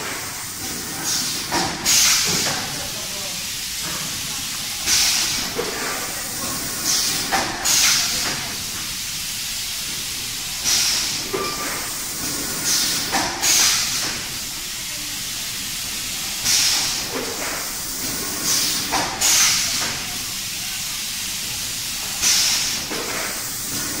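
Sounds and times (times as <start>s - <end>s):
filling machine hissing: 0.0s - 24.0s.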